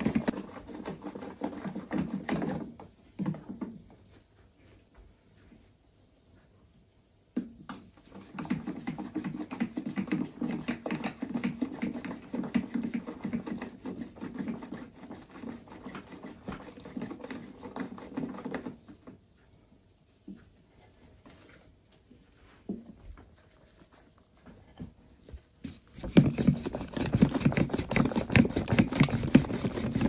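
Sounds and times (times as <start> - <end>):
hands kneading wet dough: 0.0 - 30.0.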